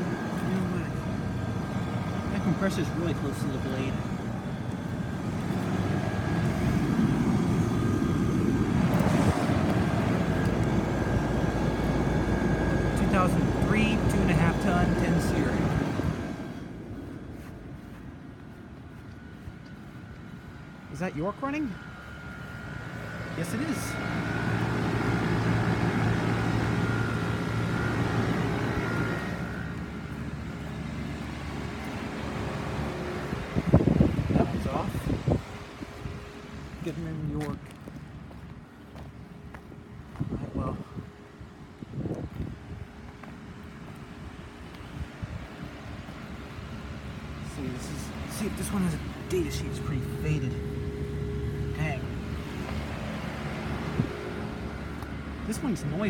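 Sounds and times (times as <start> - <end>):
air conditioner unit humming: 0.0 - 56.0
faint steady whine: 0.0 - 56.0.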